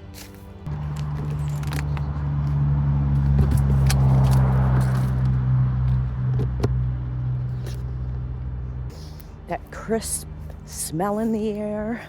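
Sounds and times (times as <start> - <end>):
car passing: 0.7 - 10.7.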